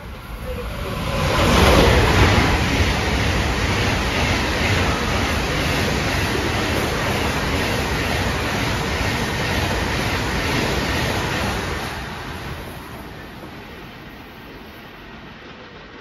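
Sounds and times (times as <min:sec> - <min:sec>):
high-speed train rushing past: 0:00.0 - 0:16.0.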